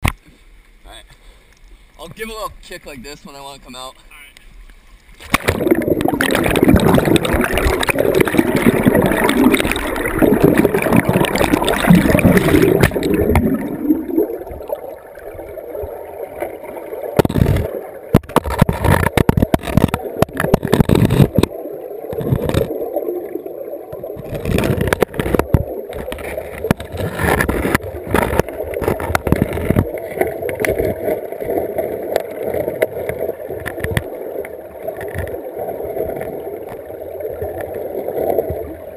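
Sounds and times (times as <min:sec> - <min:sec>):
muffled river water rushing: 0:00.0 - 0:38.9.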